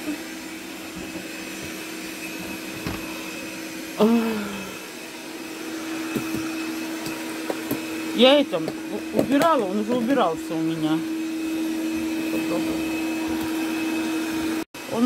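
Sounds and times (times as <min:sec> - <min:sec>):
robot vacuum cleaner humming: 0:00.0 - 0:15.0.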